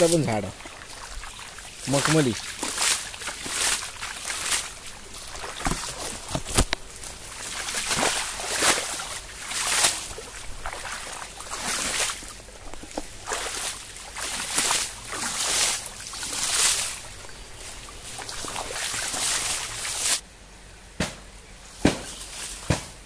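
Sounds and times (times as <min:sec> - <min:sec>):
feet splashing water: 0:00.0 - 0:20.2
water trickling: 0:00.0 - 0:20.2.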